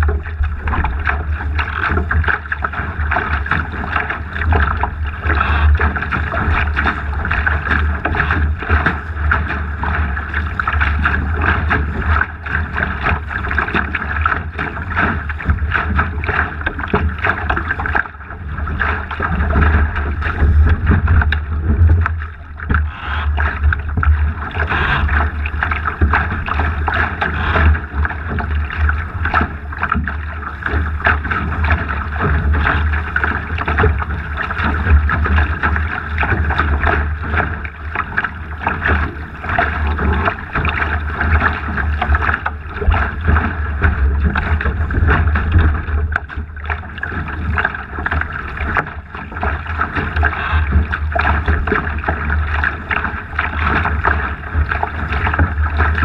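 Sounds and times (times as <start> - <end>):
water splashing along boat hull: 0.0 - 56.0.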